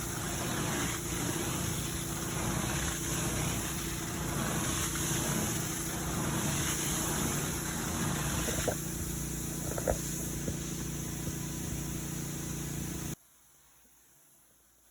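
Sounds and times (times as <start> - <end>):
motor humming and hissing: 0.0 - 13.2.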